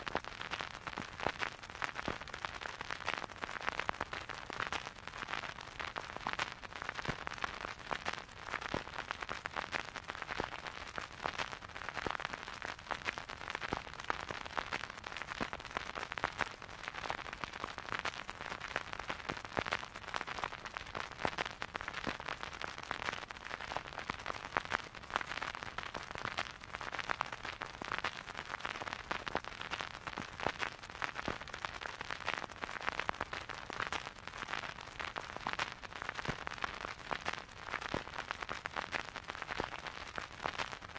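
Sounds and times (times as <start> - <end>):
vinyl record crackle: 0.0 - 40.9.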